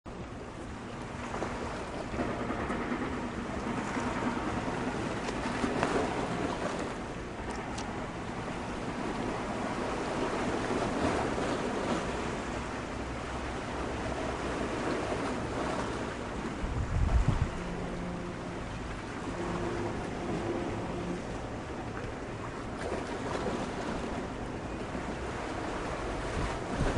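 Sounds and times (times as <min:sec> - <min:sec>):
water: 0:00.0 - 0:26.9
wind: 0:00.0 - 0:26.9.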